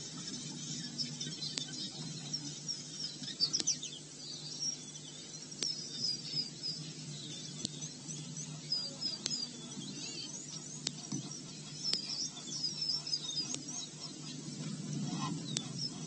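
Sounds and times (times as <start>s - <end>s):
steady low hum: 0.0s - 16.0s
wild birds chirping: 0.0s - 16.0s.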